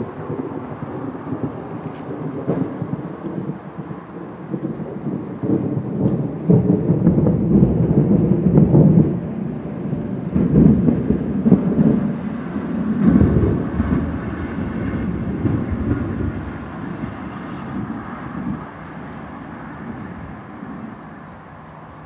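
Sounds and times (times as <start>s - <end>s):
thunder rumbling: 0.0s - 22.0s.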